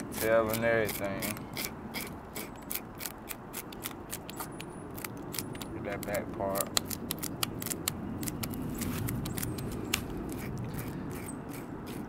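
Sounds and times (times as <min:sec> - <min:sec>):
fork scraping fish scales: 0:00.0 - 0:05.4, 0:07.6 - 0:12.0.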